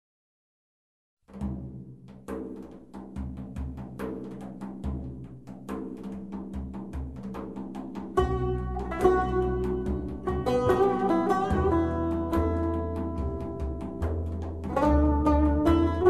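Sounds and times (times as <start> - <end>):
deep drum beats: 1.3 - 16.0
rapid tapping percussion: 1.3 - 16.0.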